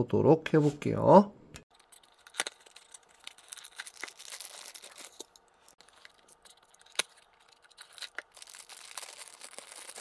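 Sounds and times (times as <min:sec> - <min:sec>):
plastic wrapper crinkling: 0:01.7 - 0:10.0.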